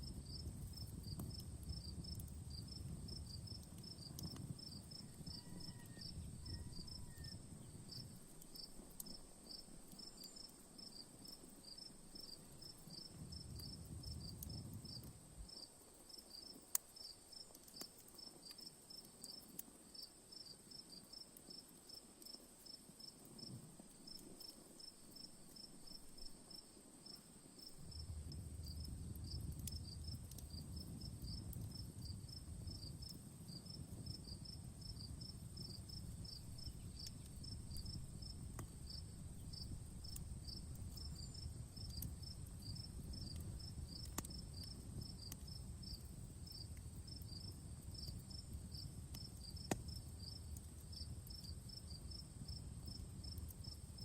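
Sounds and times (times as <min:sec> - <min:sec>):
high insect hum: 0:00.0 - 0:18.3, 0:18.9 - 0:54.0
campfire crackling: 0:00.0 - 0:54.0
crickets chirping: 0:00.0 - 0:54.0.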